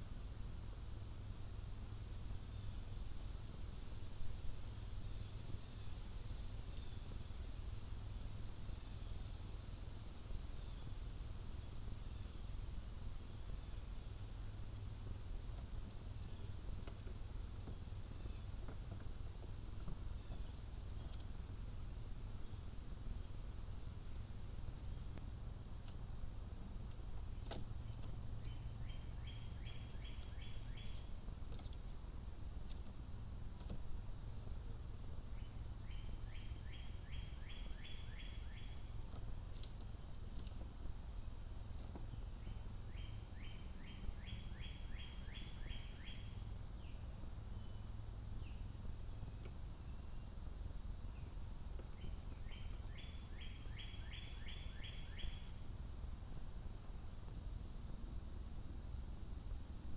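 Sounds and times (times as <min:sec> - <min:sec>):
insects high-pitched trill: 0:00.0 - 0:59.9
low outdoor rumble: 0:00.0 - 0:59.9.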